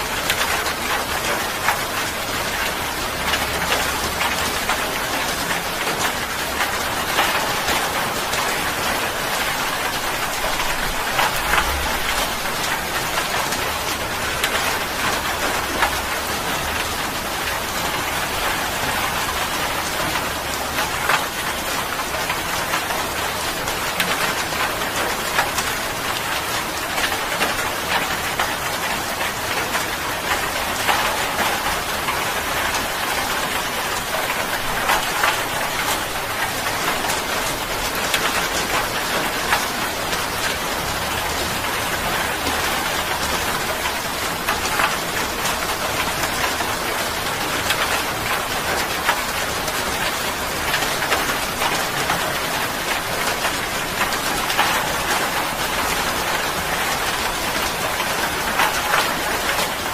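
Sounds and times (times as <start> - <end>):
steady rain hiss: 0.0 - 59.9
raindrops clicking nearby: 0.1 - 59.9.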